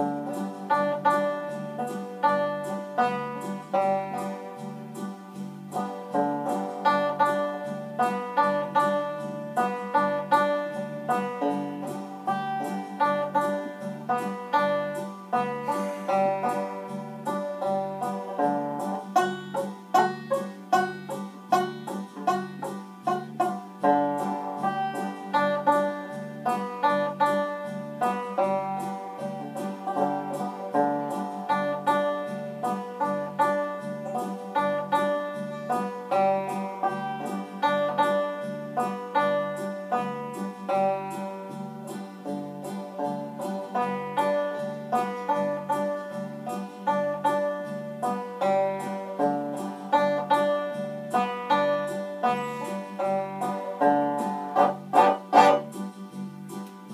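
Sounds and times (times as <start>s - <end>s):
banjo picking: 0.0s - 56.9s.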